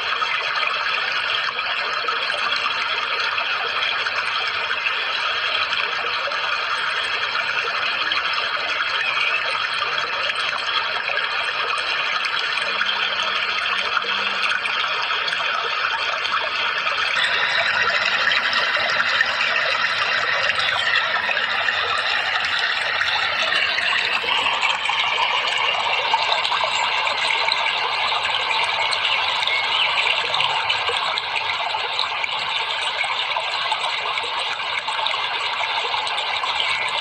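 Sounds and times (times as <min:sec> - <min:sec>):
running water flowing: 0:00.0 - 0:37.0.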